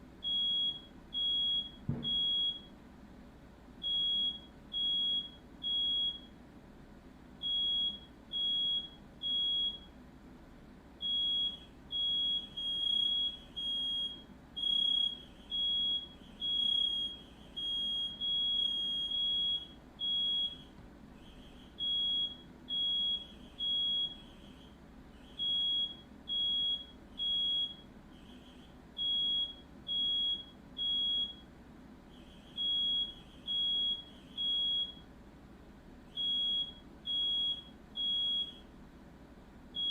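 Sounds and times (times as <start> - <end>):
smoke alarm beeping: 0.2 - 2.7, 3.8 - 6.3, 7.4 - 9.9, 11.0 - 20.7, 21.3 - 31.5, 32.2 - 35.0, 36.1 - 38.6.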